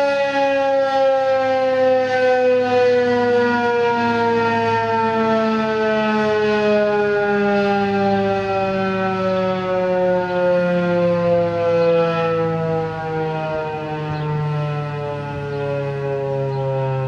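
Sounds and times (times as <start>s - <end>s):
warning siren winding down: 0.0s - 17.0s.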